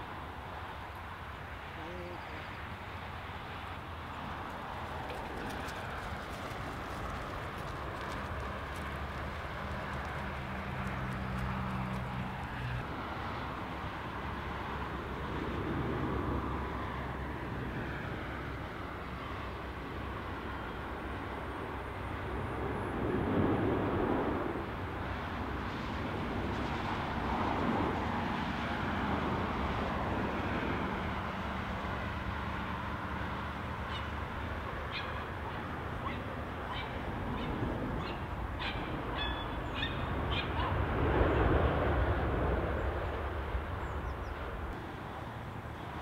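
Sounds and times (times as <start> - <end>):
distant jet engines rumbling: 0.0 - 46.0.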